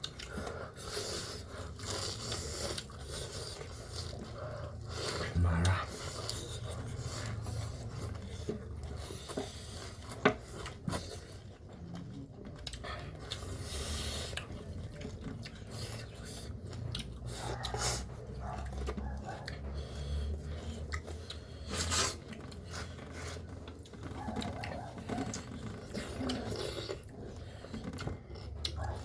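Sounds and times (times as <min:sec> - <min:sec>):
chewing and mouth noises: 0:00.0 - 0:29.0.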